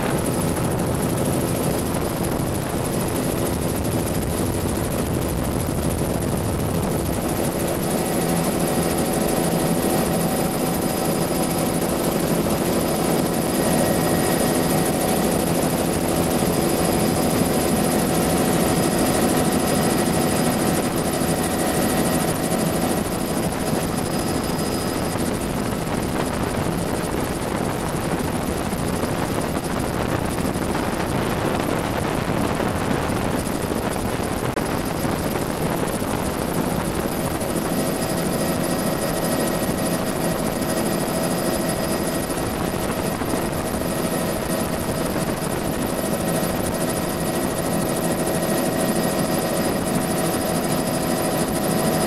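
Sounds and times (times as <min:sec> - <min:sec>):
helicopter turbine whine: 0:00.0 - 0:52.0.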